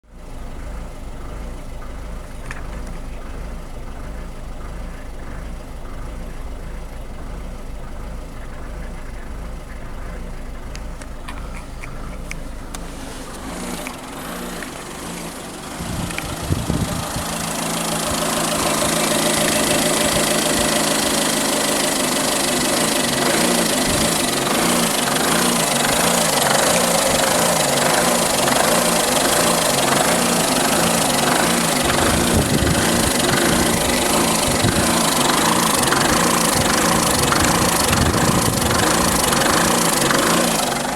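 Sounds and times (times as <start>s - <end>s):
diesel car engine running: 0.0s - 40.9s.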